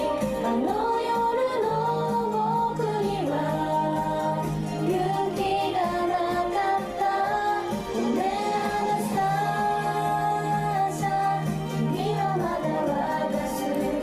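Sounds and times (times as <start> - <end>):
pop song: 0.0 - 14.0
women singing held notes: 0.0 - 14.0.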